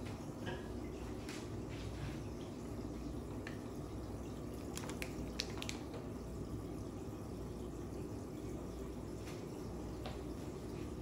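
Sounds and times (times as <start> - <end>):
aquarium water bubbling: 0.0 - 11.0
small clicks and drips: 0.0 - 11.0.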